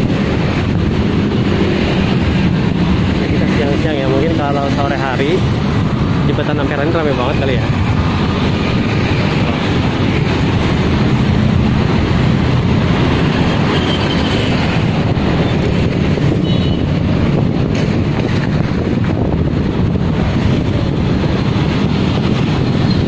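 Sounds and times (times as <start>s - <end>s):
motorbikes passing: 0.0s - 23.0s
road traffic rumbling: 0.0s - 23.0s.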